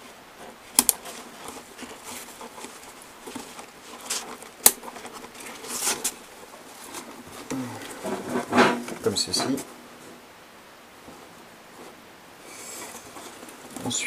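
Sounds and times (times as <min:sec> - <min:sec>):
nylon fabric rustling: 0:00.0 - 0:10.3, 0:10.9 - 0:14.0.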